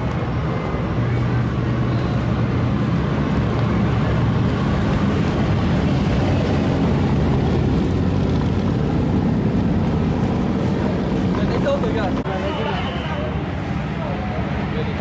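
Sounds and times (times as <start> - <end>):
motorcycle engines passing: 0.0 - 15.0.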